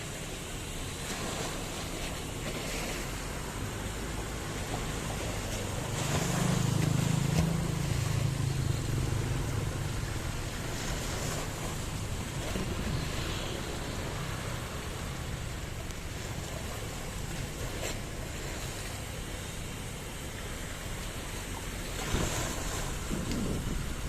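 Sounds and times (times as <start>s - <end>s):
sea water rushing: 0.0s - 24.0s.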